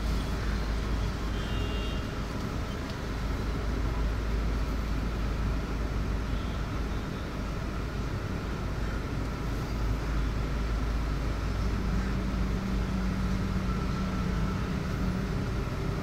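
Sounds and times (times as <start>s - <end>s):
car driving through city traffic: 0.0s - 16.0s.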